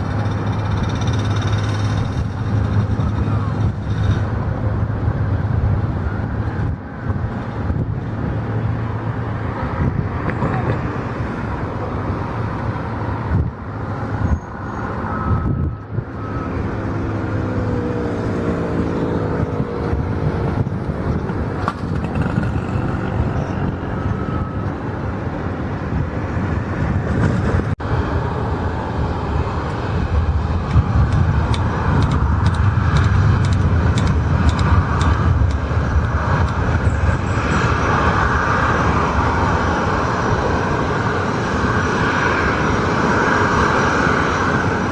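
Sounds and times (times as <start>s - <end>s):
engine rumble: 0.0s - 44.9s
falling whine: 0.0s - 44.9s.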